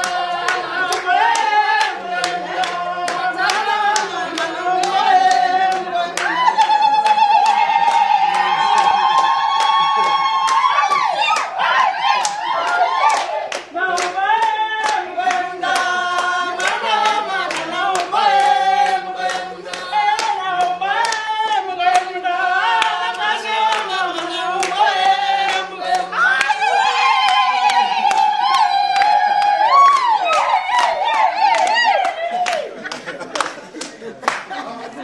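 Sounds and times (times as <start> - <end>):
group singing: 0.0 - 34.0
hands clapping in rhythm: 0.0 - 34.7.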